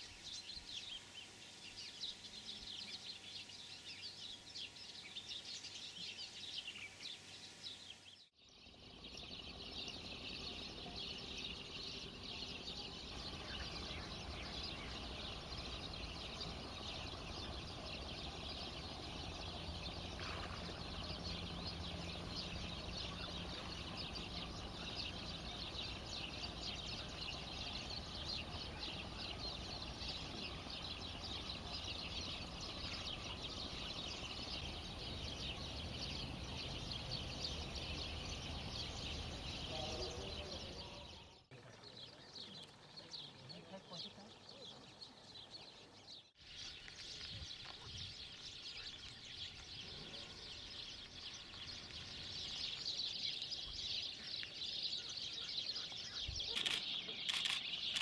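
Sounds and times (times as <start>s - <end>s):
high-pitched chirping chorus: 8.6s - 58.0s.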